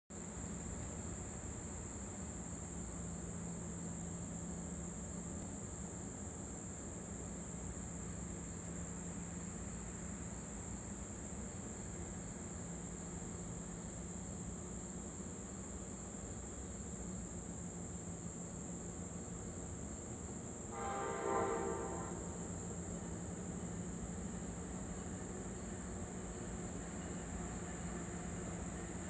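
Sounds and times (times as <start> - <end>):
crickets buzzing: 0.2 - 29.0
steady low hum: 0.4 - 29.0.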